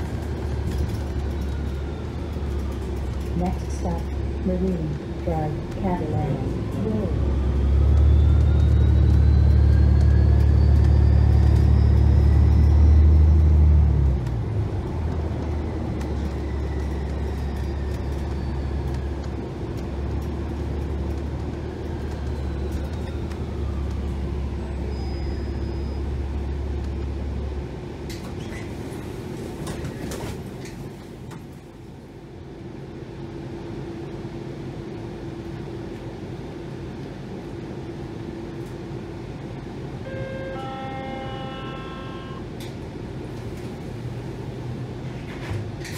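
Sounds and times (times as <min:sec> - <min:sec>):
diesel engine low drone: 0:00.0 - 0:45.9.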